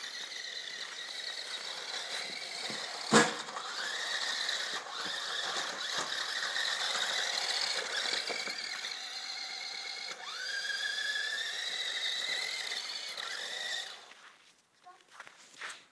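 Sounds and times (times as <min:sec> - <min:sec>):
rc car motor whining: 0:00.0 - 0:14.2.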